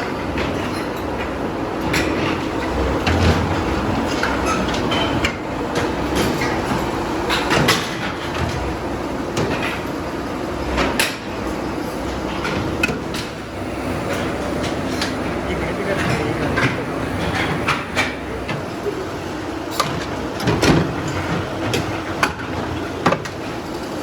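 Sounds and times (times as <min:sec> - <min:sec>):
factory machinery clattering: 0:00.3 - 0:24.0.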